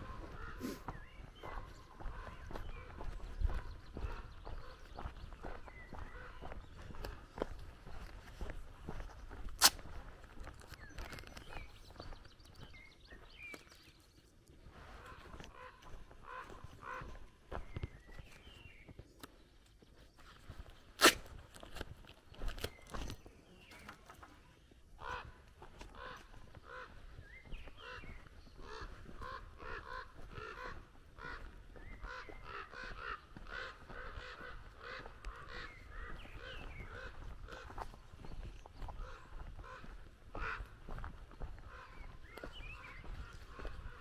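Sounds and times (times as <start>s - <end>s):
birds calling: 0.0s - 44.0s
footsteps on dirt: 0.0s - 44.0s.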